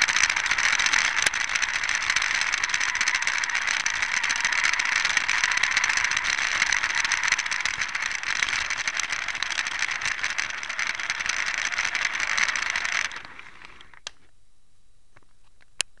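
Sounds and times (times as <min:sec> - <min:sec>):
toy train clattering on track: 0:00.0 - 0:14.1.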